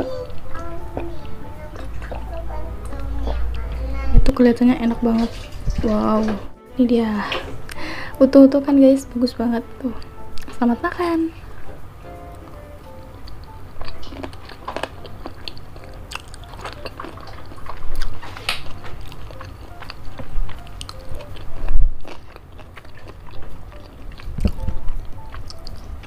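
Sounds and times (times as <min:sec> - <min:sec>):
close-miked wet chewing: 0:00.0 - 0:06.5, 0:10.0 - 0:10.7, 0:12.2 - 0:26.0.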